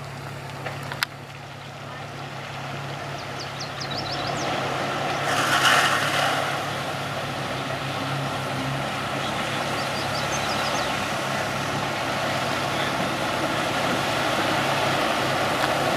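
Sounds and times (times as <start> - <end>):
car engine running: 0.0 - 15.9
water sloshing and rushing: 0.0 - 15.9.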